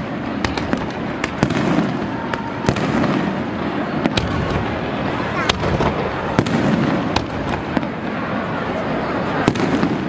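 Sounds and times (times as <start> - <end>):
fireworks crackling and banging: 0.0 - 10.0.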